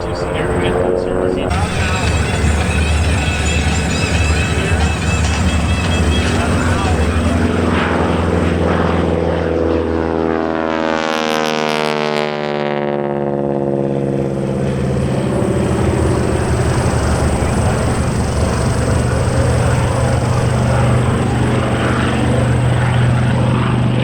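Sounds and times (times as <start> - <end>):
propeller plane passing by: 0.0 - 24.0.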